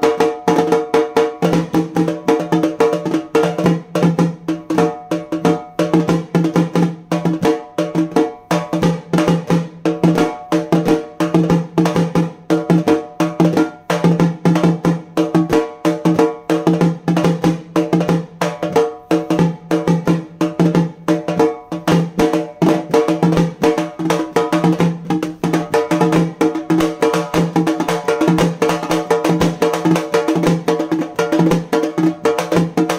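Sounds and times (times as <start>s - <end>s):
frame drum beaten with sticks: 0.0s - 32.9s.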